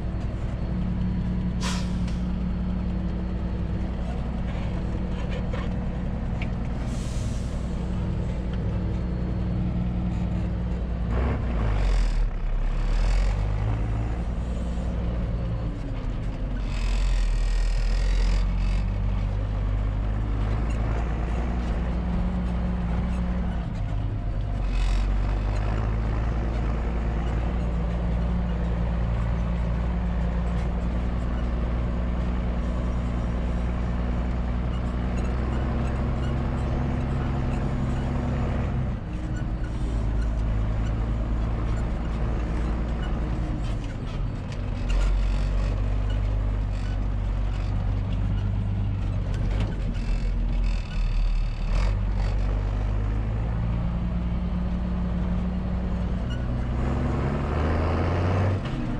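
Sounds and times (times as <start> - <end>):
diesel engine running under load: 0.0 - 58.9.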